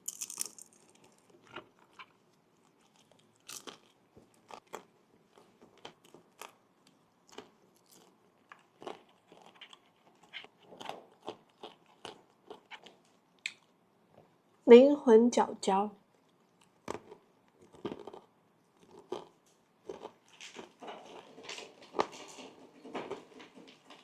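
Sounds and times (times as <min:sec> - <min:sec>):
crunchy biting and chewing: 0:00.0 - 0:13.7, 0:16.3 - 0:22.2.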